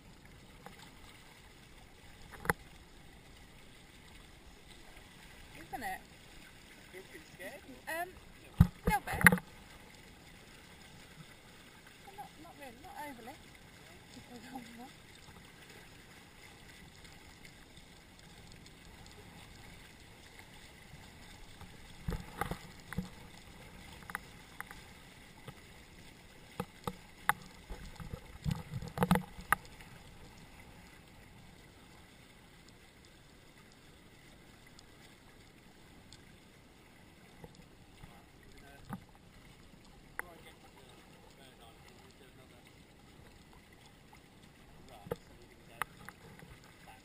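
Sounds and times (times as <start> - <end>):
water washing along hulls: 0.0 - 47.0.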